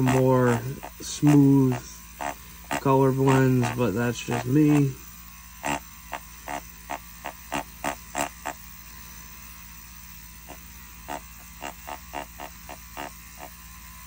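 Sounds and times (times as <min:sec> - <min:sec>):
steady low hum: 0:00.0 - 0:14.0
tattoo pen buzzing on paper: 0:00.0 - 0:14.0.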